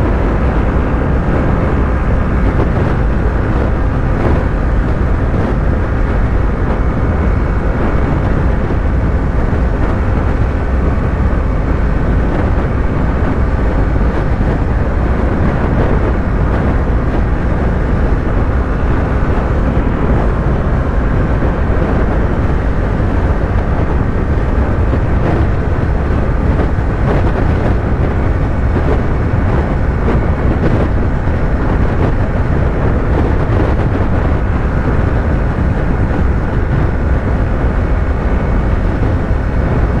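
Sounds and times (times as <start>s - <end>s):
motorcycle engine cruising: 0.0s - 40.0s
wind rushing over microphone: 0.0s - 40.0s.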